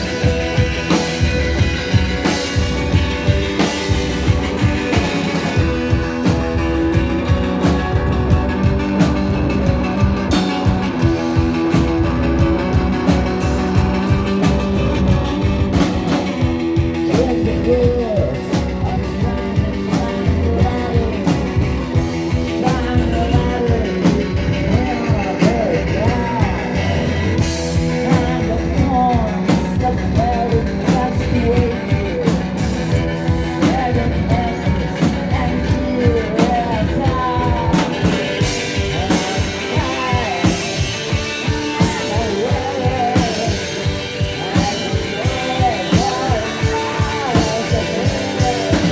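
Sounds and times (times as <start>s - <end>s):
live rock band: 0.0s - 48.9s
person singing: 0.0s - 48.9s.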